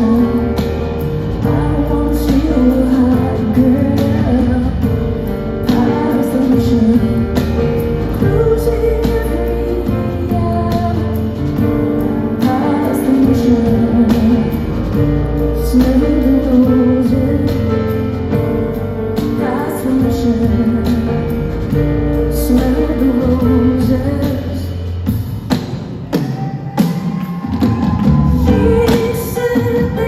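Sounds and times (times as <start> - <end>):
woman singing: 0.0 - 25.0, 27.7 - 30.0.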